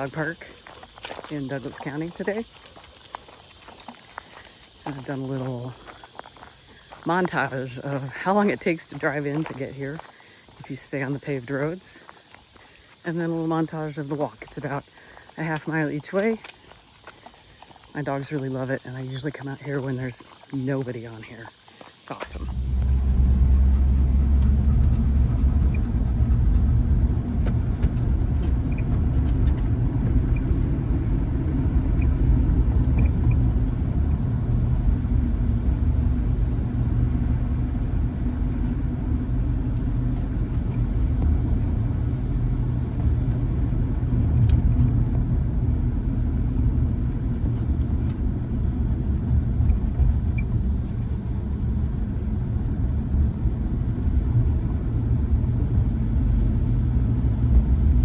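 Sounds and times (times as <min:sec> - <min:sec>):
road and engine rumble: 0:00.0 - 0:58.0.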